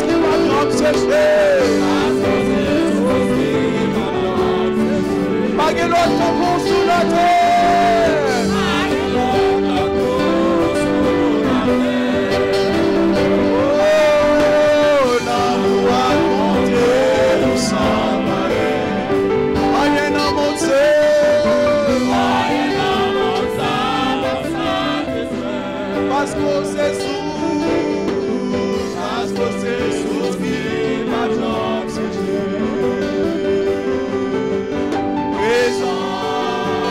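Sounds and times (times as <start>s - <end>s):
instrumental accompaniment: 0.0s - 36.9s
man and woman singing a hymn: 0.0s - 36.9s.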